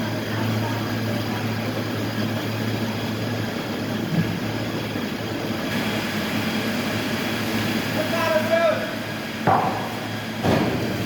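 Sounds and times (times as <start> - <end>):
heavy machinery humming: 0.0 - 11.0.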